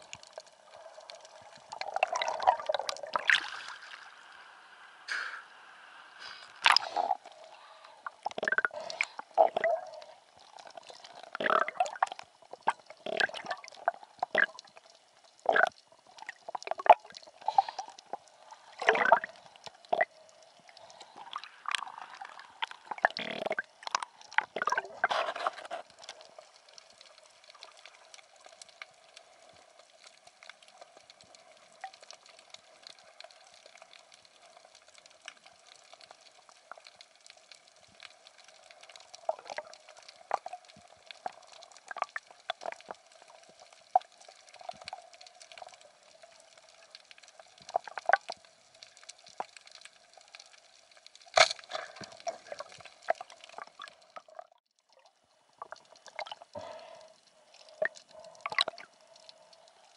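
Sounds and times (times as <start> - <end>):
sea water gurgling and sloshing: 0.0 - 35.7, 36.3 - 59.9
faint steady hiss: 0.0 - 59.9.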